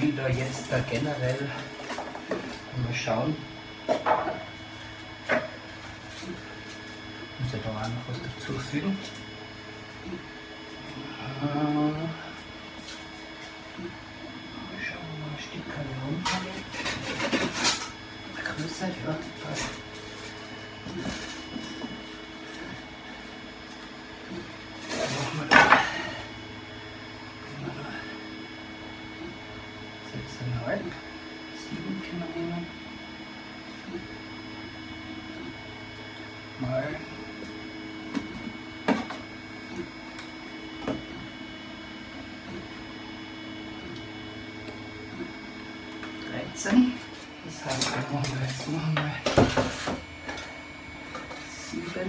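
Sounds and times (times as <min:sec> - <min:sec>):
steady machine hum: 0:00.0 - 0:52.0.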